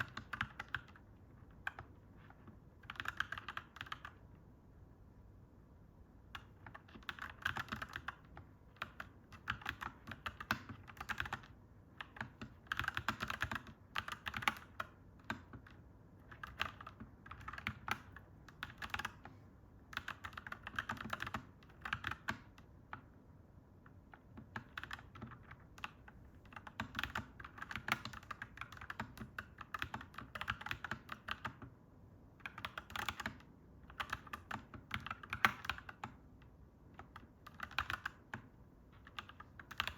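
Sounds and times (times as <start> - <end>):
mechanical keyboard typing: 0.0 - 4.4, 6.2 - 23.2, 23.8 - 39.9.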